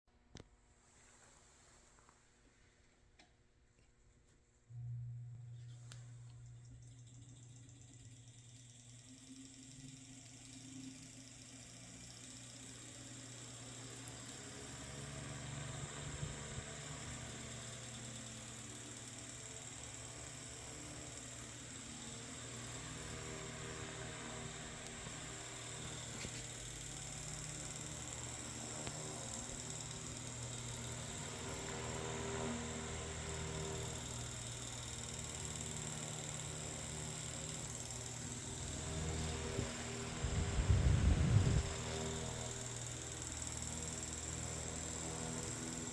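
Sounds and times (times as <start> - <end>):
electric fan motor humming: 4.7 - 45.9.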